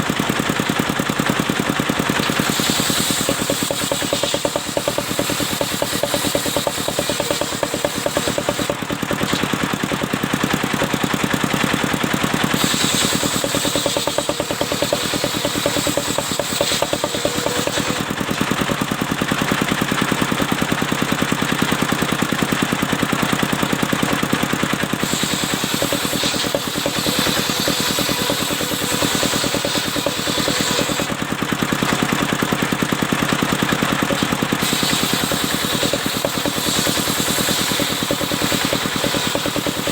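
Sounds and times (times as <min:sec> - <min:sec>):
sawmill engine pulse: 0:00.0 - 0:39.9
saw blade cutting wood whine: 0:01.2 - 0:39.9.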